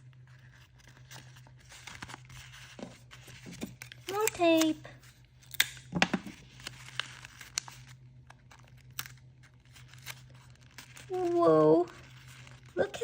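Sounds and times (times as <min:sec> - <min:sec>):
paper crinkling: 0:00.1 - 0:13.0.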